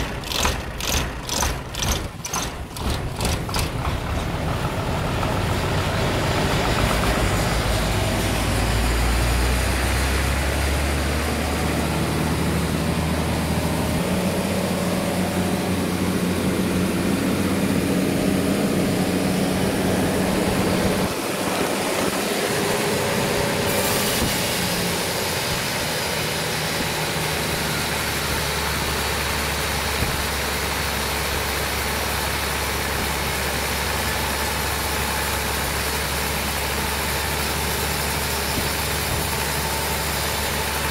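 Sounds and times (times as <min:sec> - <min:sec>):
heavy engine running: 0:00.0 - 0:40.9.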